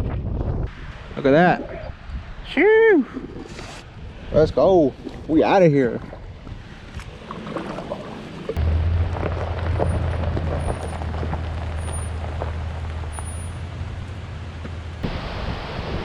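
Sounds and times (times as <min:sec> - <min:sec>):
gusting wind: 0:00.0 - 0:16.0.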